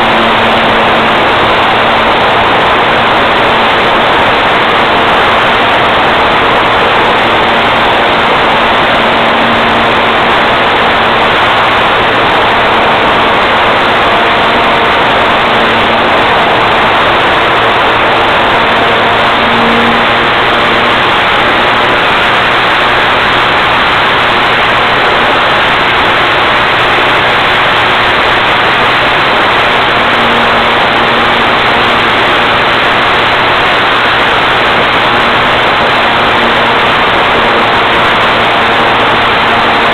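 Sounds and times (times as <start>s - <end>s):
small aircraft engine and propeller: 0.0s - 39.9s.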